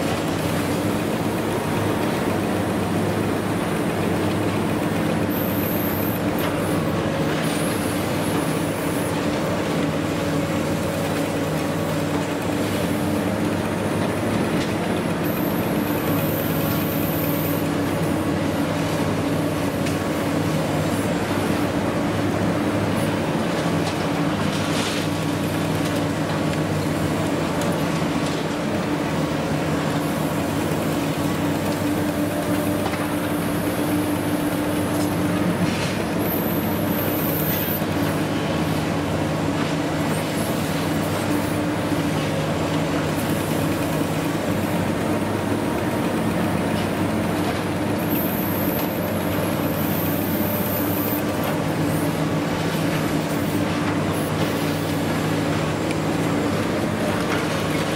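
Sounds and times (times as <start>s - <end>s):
excavator engine and hydraulic drone: 0.0s - 57.9s.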